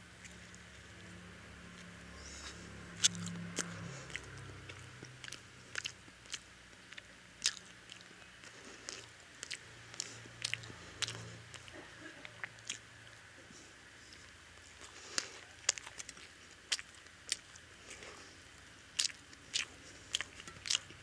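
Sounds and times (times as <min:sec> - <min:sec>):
person chewing: 0:00.2 - 0:00.8, 0:01.7 - 0:21.0.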